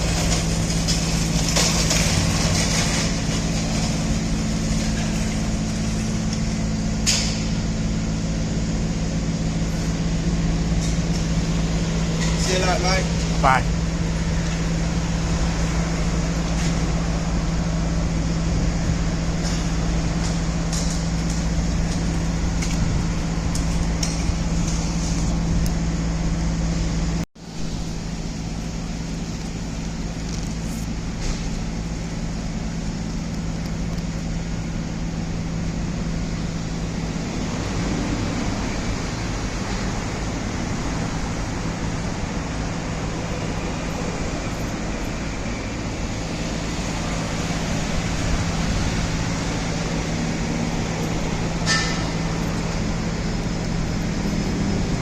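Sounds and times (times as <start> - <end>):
mechanical hum with low tone: 0.0 - 55.0
street traffic noise: 0.0 - 55.0.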